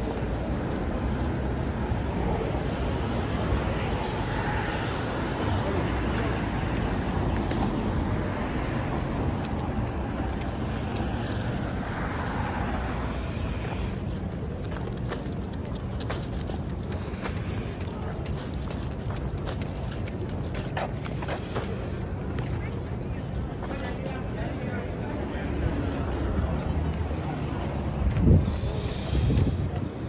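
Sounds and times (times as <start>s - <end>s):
city traffic passing cars: 0.0s - 30.0s.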